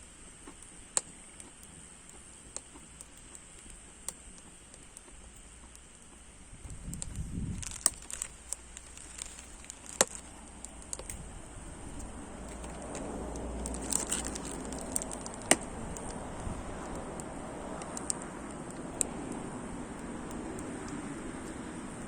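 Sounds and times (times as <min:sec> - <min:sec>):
firewood crackling and popping: 0:00.0 - 0:22.0
low rushing of flames: 0:00.0 - 0:22.0.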